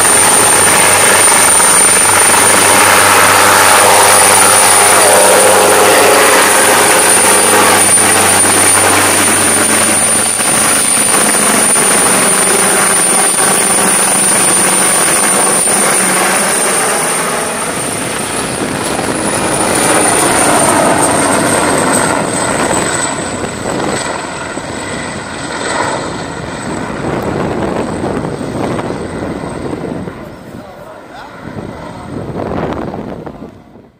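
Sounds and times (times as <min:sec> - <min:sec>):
helicopter rotor beat: 0:00.0 - 0:33.9
high turbine whine: 0:00.0 - 0:33.9.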